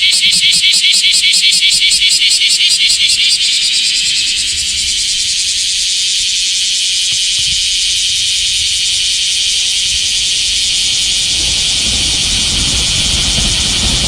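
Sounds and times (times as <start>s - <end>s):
cicadas buzzing chorus: 0.0s - 14.0s.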